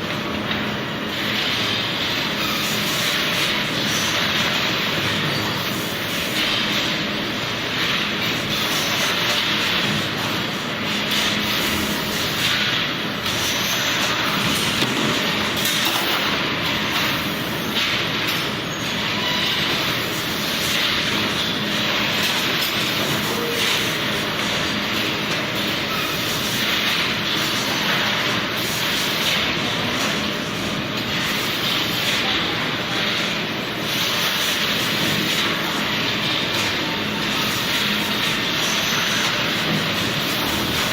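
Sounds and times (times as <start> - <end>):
food processing machinery running: 0.0 - 40.9.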